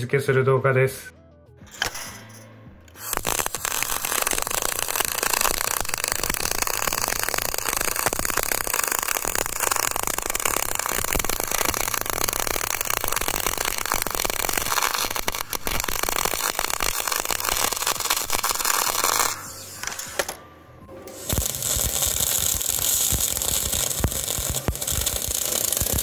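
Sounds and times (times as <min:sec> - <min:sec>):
welding arc crackling: 0:02.9 - 0:20.4, 0:21.1 - 0:26.0.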